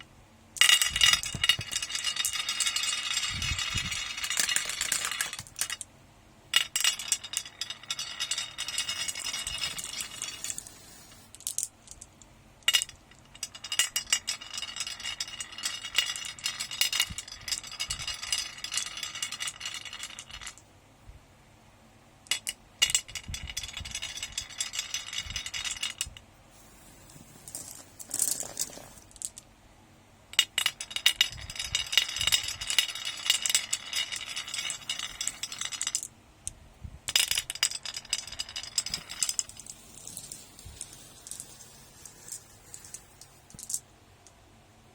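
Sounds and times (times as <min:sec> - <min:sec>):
marbles rattling down a track: 0:00.6 - 0:05.9, 0:06.6 - 0:20.7, 0:22.3 - 0:26.2, 0:27.0 - 0:29.4, 0:30.4 - 0:43.9.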